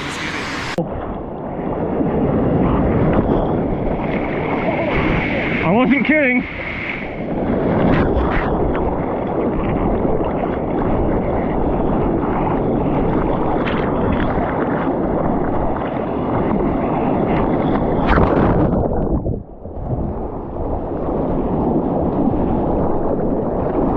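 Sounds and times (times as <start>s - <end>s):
water rushing and splashing: 0.0s - 1.9s, 3.6s - 23.9s
wind buffeting microphone: 0.0s - 23.9s.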